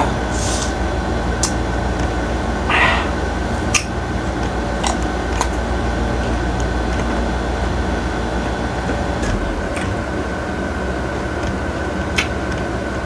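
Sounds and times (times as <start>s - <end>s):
fan humming with high whine: 0.0s - 13.0s.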